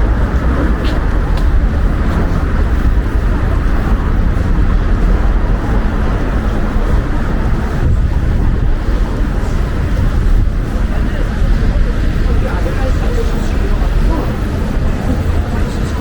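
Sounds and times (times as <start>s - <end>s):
city street noise: 0.0s - 16.0s
wind buffeting microphone: 0.0s - 16.0s.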